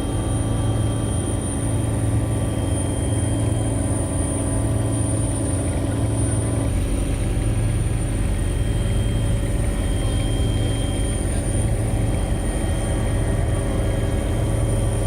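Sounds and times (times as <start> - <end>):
helicopter engine and rotor drone: 0.0 - 15.0
high steady whine: 0.0 - 15.0.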